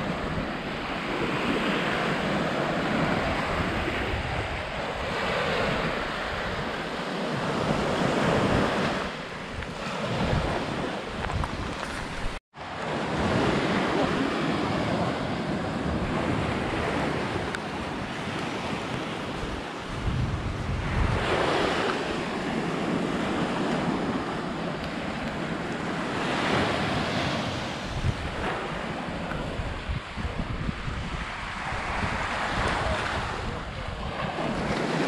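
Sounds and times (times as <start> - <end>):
small waves breaking on shore: 0.0 - 35.0
wind buffeting microphone: 0.0 - 35.0.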